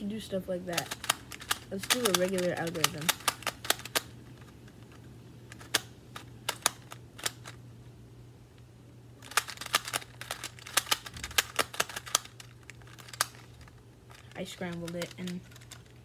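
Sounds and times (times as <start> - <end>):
low steady hum: 0.0 - 16.0
plastic puzzle clacking: 0.7 - 7.6, 9.2 - 16.0.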